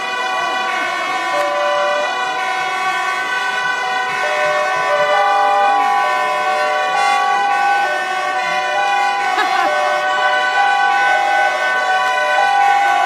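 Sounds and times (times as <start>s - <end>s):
vehicle air horns blasting: 0.0s - 13.0s.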